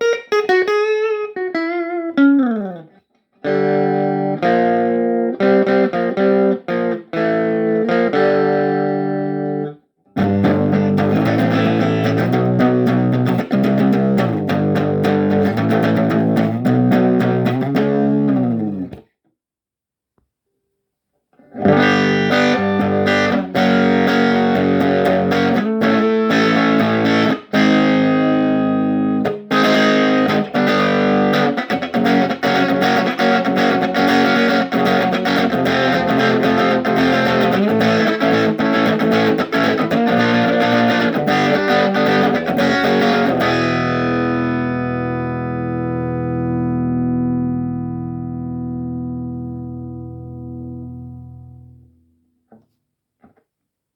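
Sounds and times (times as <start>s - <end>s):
electric guitar notes and chords: 0.0s - 19.0s, 21.4s - 52.0s.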